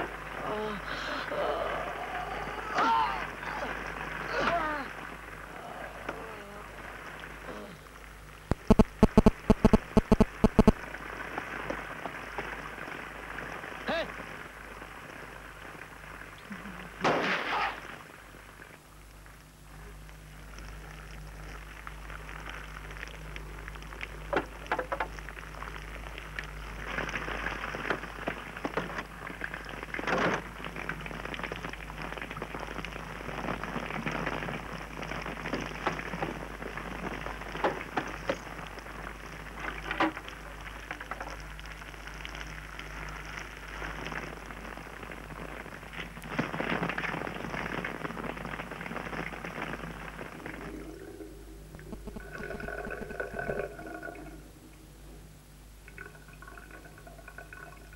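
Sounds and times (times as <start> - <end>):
steady crackling hiss: 0.0 - 57.9.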